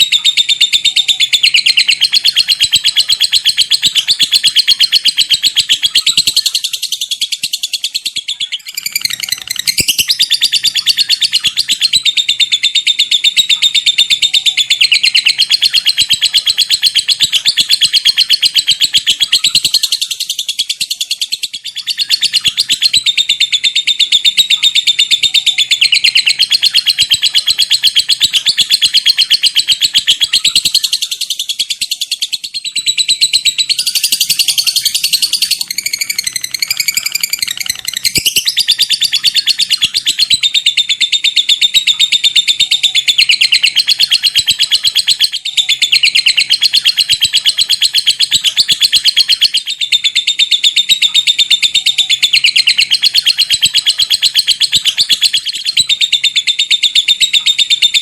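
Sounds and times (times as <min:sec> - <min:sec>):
lovebird chattering: 0:00.0 - 0:58.0.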